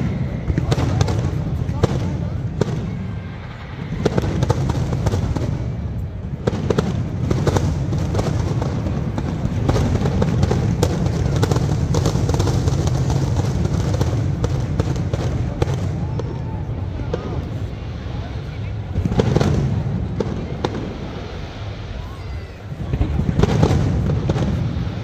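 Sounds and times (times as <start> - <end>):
fireworks cracking and banging: 0.0 - 25.0.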